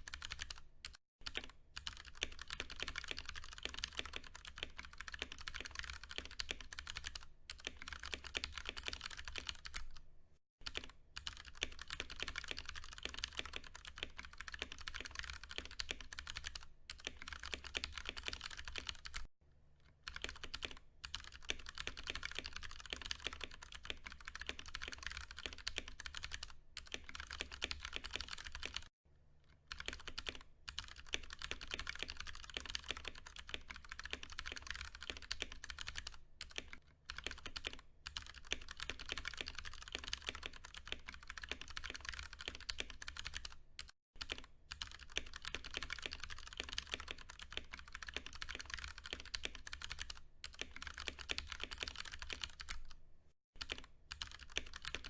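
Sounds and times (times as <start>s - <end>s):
fast mechanical keyboard typing: 0.0s - 10.0s, 10.6s - 19.3s, 20.0s - 28.9s, 29.7s - 53.0s, 53.6s - 55.0s.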